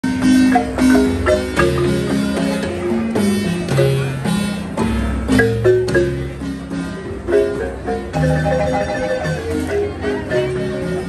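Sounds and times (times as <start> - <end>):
marimba played with mallets: 0.0 - 11.0.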